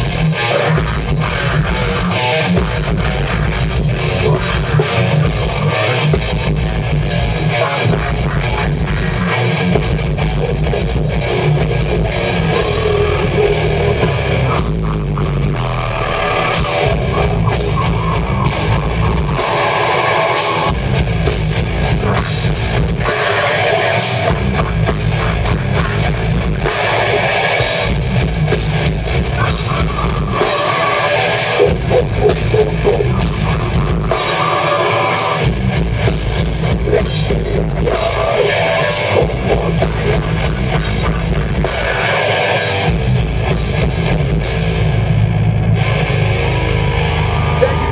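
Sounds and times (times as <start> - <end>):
heavy rock band playing: 0.0 - 47.9.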